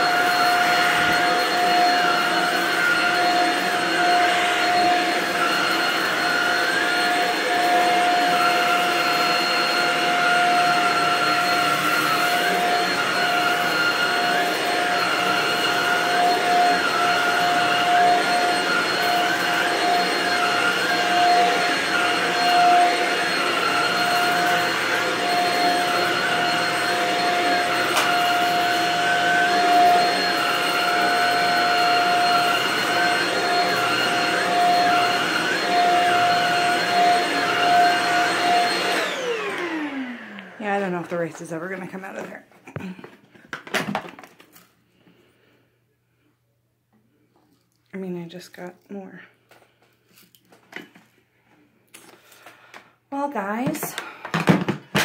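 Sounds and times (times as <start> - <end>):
vacuum cleaner running on rug: 0.0 - 44.2, 53.2 - 55.0.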